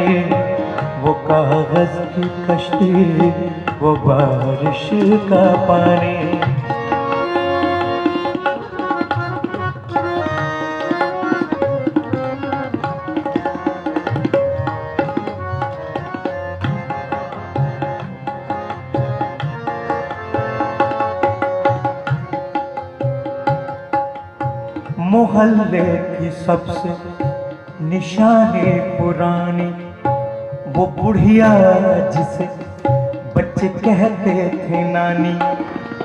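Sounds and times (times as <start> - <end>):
held instrumental melody: 0.0 - 36.0
tabla rhythm: 0.0 - 36.0.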